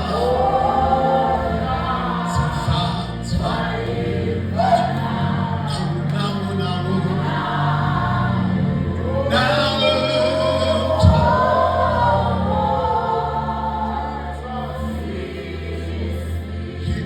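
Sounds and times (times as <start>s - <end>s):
group singing gospel song: 0.0s - 17.0s
sustained low instrumental notes: 0.0s - 17.0s.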